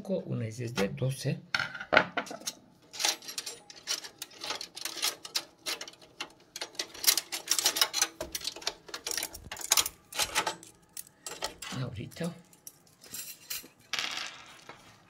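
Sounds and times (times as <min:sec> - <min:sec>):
plastic and metal parts clattering: 0:01.7 - 0:14.9.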